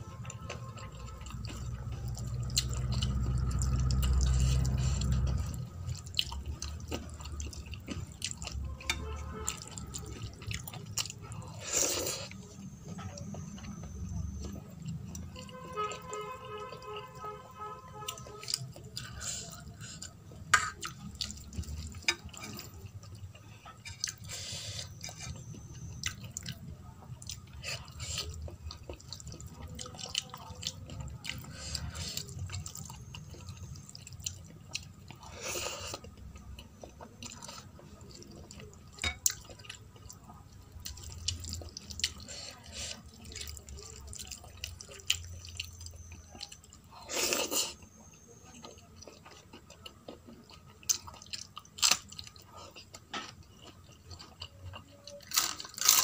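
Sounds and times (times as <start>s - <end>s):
eating sounds: 0.0s - 17.2s, 18.0s - 56.0s.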